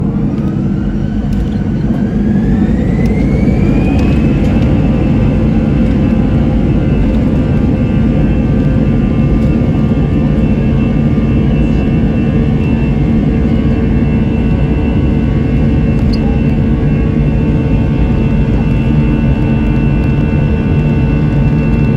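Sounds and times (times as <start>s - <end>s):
jet engines spooling up: 0.0s - 21.9s.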